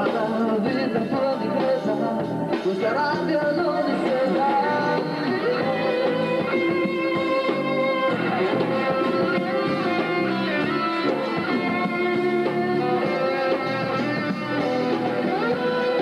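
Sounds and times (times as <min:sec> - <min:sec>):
electric guitars: 0:00.0 - 0:16.0
live rock band playing: 0:00.0 - 0:16.0.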